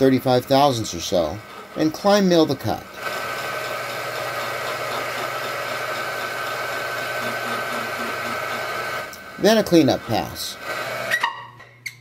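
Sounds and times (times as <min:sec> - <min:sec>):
milling machine whirring: 0:00.0 - 0:11.2.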